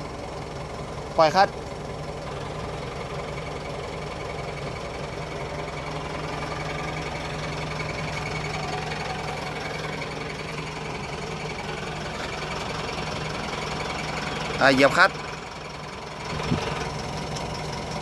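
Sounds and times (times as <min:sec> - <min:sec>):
engine idling with clutch clatter: 0:00.0 - 0:18.0.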